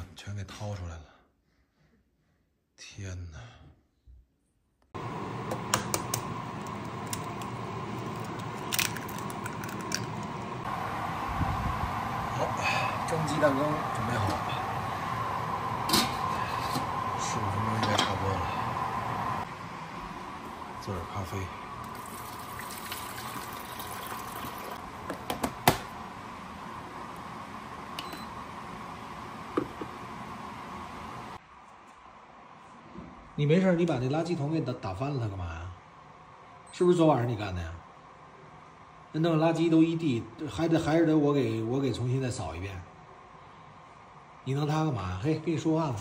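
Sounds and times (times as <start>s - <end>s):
appliance hum: 5.0s - 46.0s.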